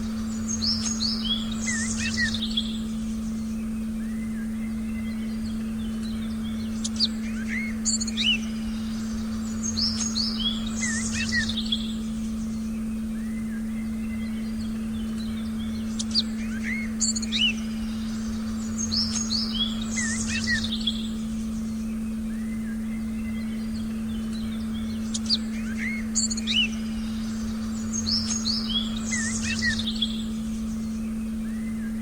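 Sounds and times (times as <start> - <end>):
birds chirping and whistling: 0.0 - 32.0
meditation tone humming: 0.0 - 32.0.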